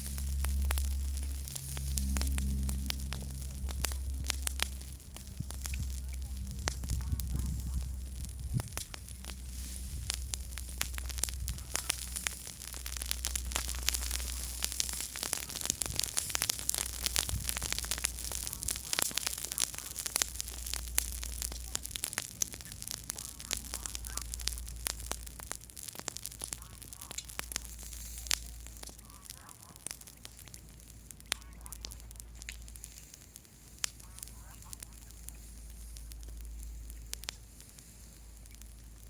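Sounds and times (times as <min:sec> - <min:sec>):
campfire crackling and popping: 0:00.0 - 0:39.0
low steady rumble: 0:00.0 - 0:39.0.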